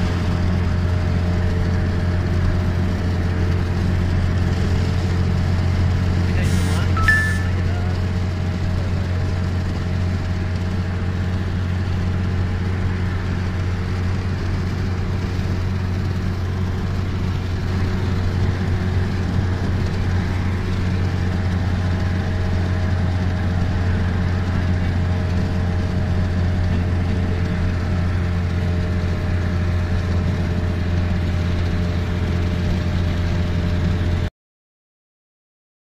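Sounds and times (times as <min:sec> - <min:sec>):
car engine and road hum: 0:00.0 - 0:34.3.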